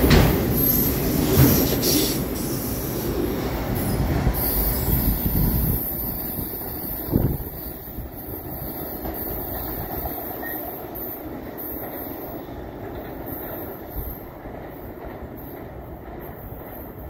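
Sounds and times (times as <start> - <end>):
train rumbling along track: 0.0 - 17.0.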